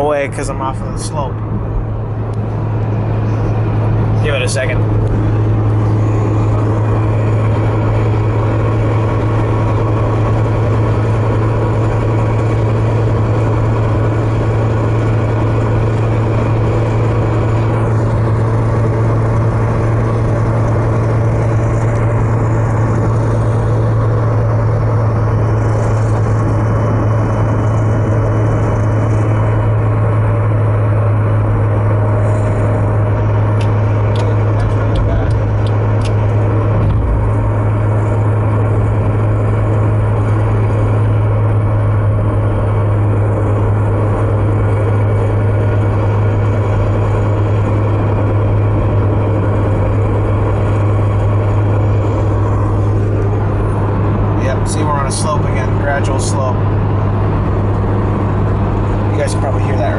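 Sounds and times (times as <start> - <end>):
low engine drone: 0.0 - 59.9
road noise inside car: 0.0 - 59.9.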